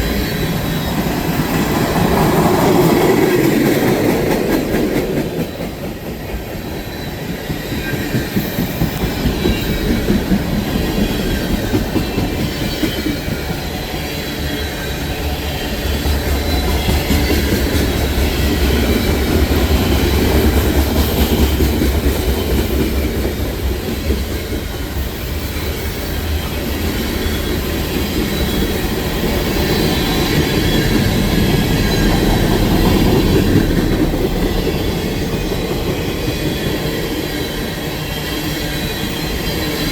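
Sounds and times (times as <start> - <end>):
high wheel squeal: 0.0 - 23.2, 23.9 - 39.9
train rumbling on rails: 0.0 - 39.9.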